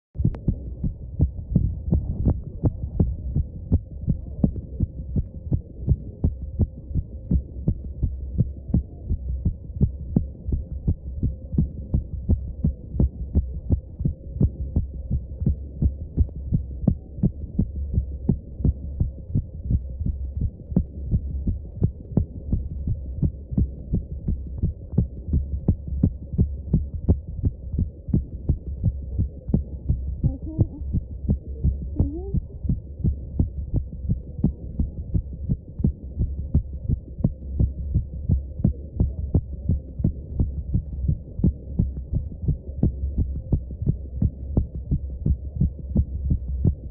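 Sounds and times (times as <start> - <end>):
heartbeat through stethoscope: 0.1 - 46.9
low hum: 0.2 - 46.9.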